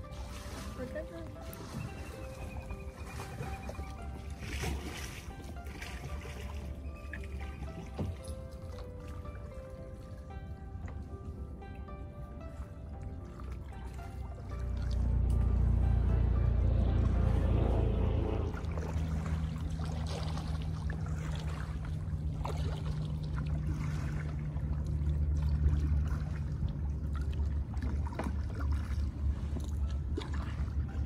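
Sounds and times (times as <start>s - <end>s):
low steady hum: 0.0s - 31.0s
paddle splashing in water: 0.0s - 31.0s.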